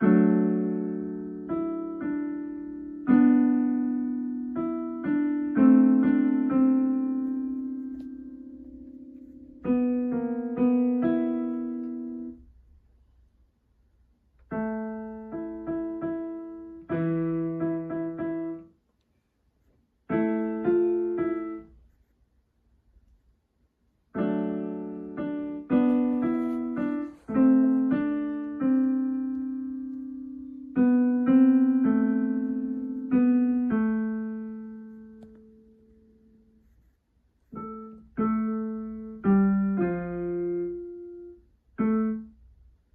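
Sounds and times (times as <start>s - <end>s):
digital piano phrases and chords: 0.0s - 12.6s, 14.4s - 18.8s, 20.0s - 22.1s, 24.1s - 42.9s.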